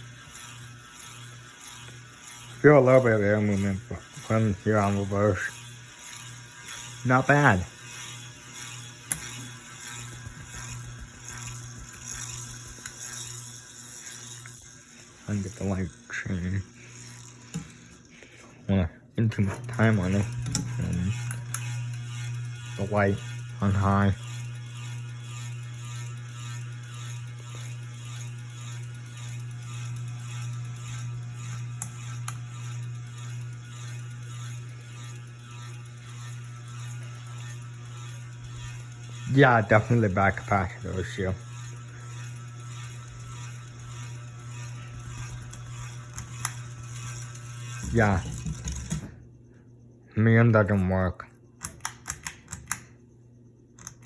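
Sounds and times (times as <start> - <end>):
ceiling fan motor hum: 0.0 - 54.0.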